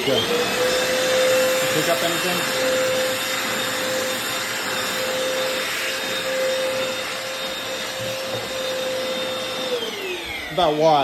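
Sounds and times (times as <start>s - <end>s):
vacuum motor whining: 0.0s - 11.0s.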